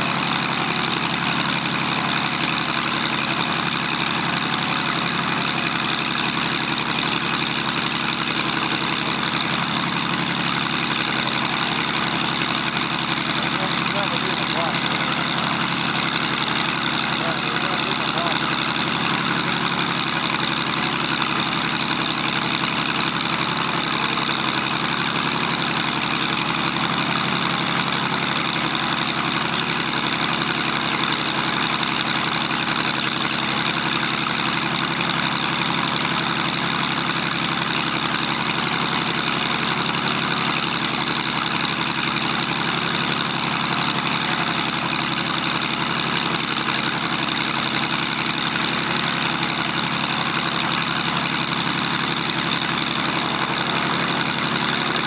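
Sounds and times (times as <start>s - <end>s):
propeller aircraft engine running: 0.0s - 55.0s.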